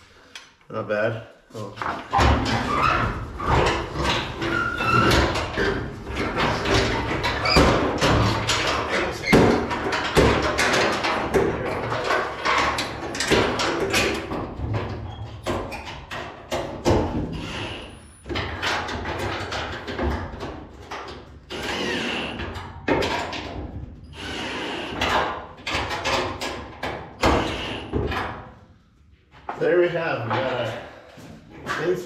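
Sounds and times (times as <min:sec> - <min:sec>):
parts knocking and clattering: 0:01.5 - 0:32.0.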